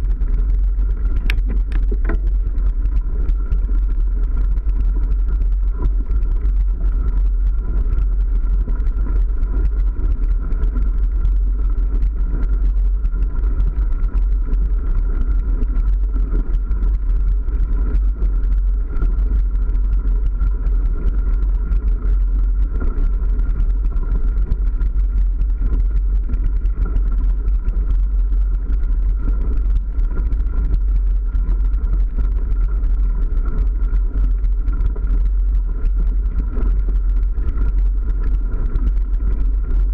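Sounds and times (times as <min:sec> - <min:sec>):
faint steady hum: 0:00.0 - 0:39.9
wind on microphone: 0:00.0 - 0:39.9.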